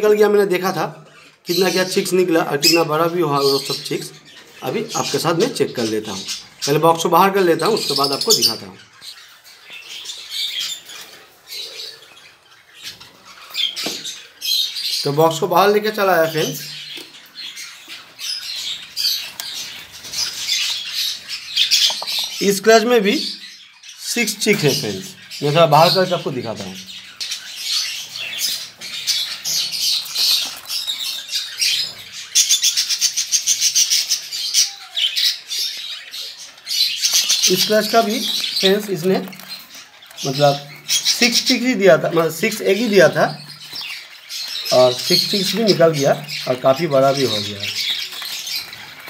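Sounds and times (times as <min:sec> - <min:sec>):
lovebirds squawking and chirping: 0:00.0 - 0:49.0.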